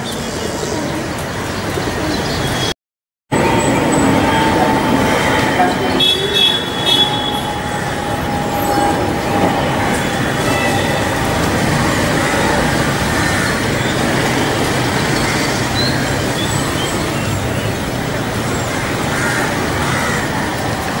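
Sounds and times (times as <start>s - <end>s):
urban road traffic: 0.0s - 21.0s.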